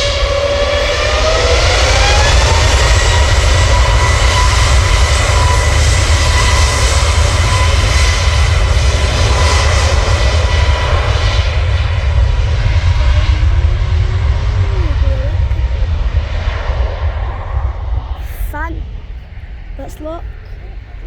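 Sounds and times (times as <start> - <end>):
jet engines at takeoff power: 0.0 - 21.0.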